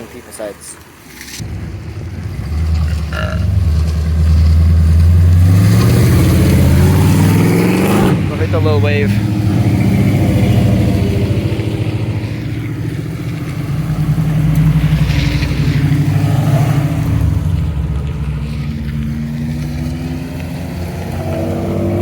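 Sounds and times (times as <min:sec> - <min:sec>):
car engines accelerating: 0:01.3 - 0:22.0.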